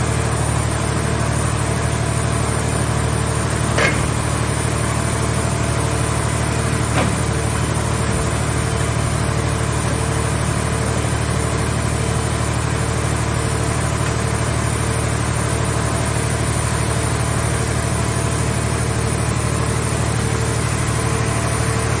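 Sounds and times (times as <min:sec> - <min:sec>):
hydraulic power unit droning: 0:00.0 - 0:22.0.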